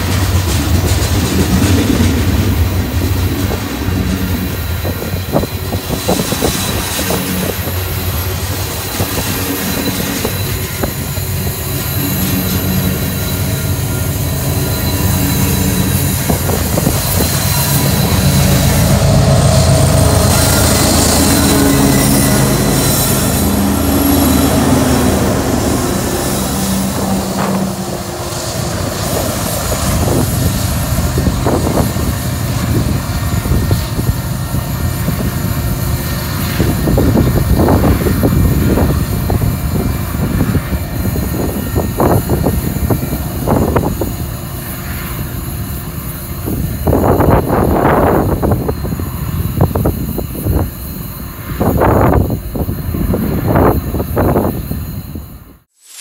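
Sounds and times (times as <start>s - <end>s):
wind rumbling on microphone: 0.0s - 45.3s, 46.1s - 55.6s
diesel locomotive engine drone: 0.0s - 56.0s
train wheels on rails: 0.0s - 56.0s.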